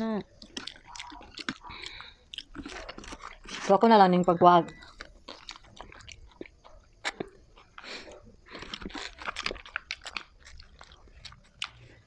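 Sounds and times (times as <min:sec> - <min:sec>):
chewing and crunching food: 0:00.0 - 0:12.0.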